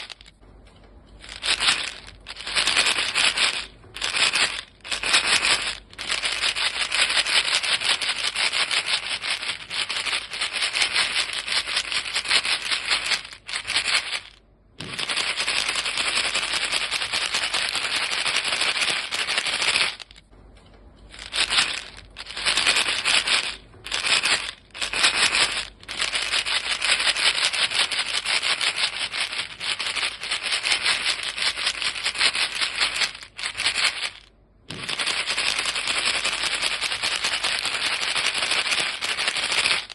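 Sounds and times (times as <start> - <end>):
chewing gum rattling in box: 0.0 - 0.4, 1.2 - 20.2, 21.1 - 39.9.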